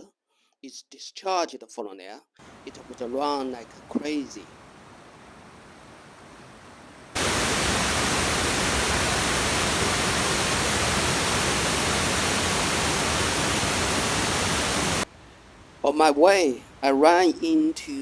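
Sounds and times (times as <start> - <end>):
mountain stream rushing: 2.4 - 17.2.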